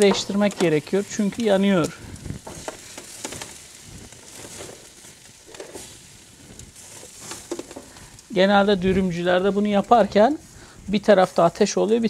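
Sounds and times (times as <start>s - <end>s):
chicken wings sizzling: 0.0s - 12.0s
fat crackling: 0.0s - 12.0s.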